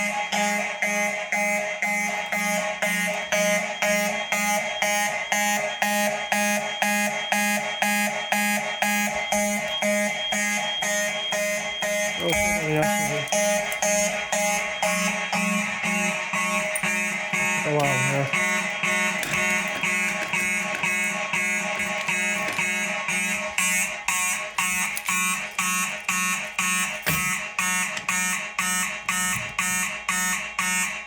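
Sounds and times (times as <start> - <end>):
fire alarm horns pulsing: 0.0 - 31.0.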